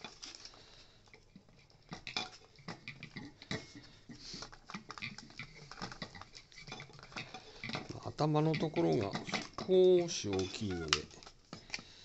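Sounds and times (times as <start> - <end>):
plastic parts clicking and knocking: 0.0 - 11.9.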